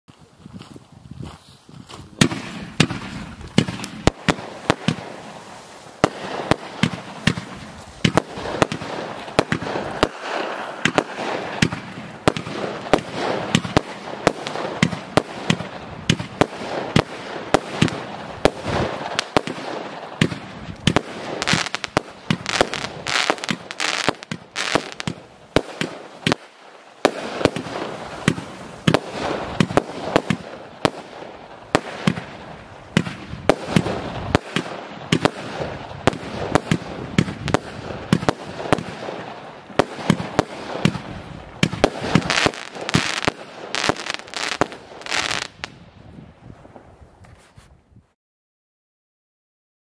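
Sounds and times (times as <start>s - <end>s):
firework cracking shots: 2.2s - 45.8s.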